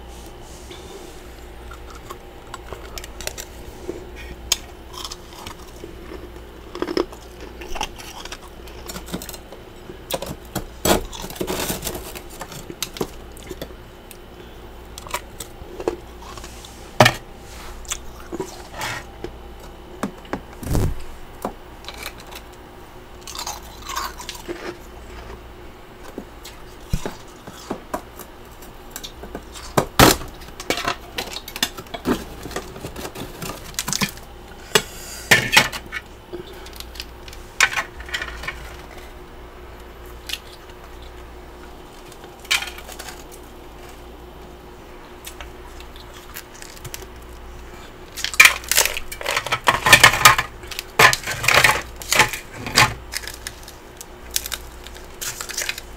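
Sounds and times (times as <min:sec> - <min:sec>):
frost crunching being chewed: 0:00.6 - 0:16.8, 0:17.6 - 0:19.8, 0:21.8 - 0:34.6, 0:38.7 - 0:49.6, 0:50.5 - 0:55.9.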